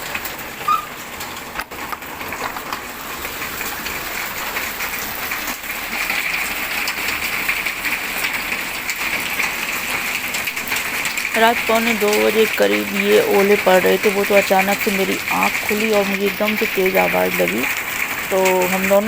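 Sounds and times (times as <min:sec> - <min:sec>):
hailstones clattering: 0:00.0 - 0:19.0
rain rushing: 0:00.0 - 0:19.0.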